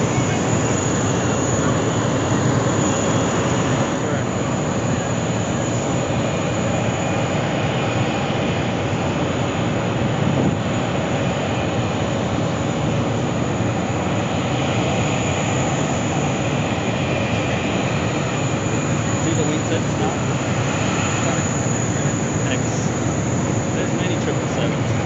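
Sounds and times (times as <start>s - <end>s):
jet engines running steadily: 0.0s - 25.0s.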